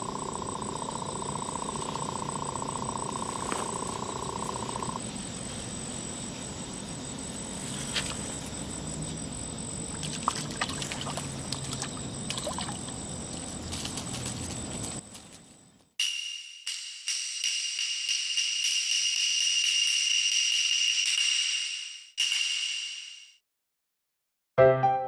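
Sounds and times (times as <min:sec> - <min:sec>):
insect pulsing trill: 0:00.0 - 0:20.9
insects high-pitched drone: 0:00.0 - 0:22.5.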